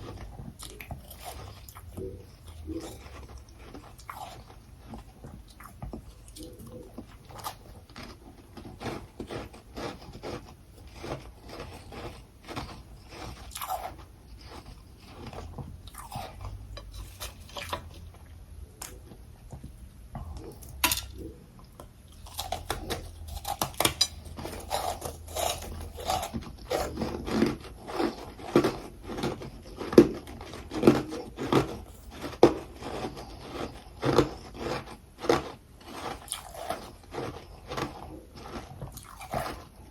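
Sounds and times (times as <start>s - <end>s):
chewing ice crunches: 0.0s - 17.9s, 22.2s - 39.9s.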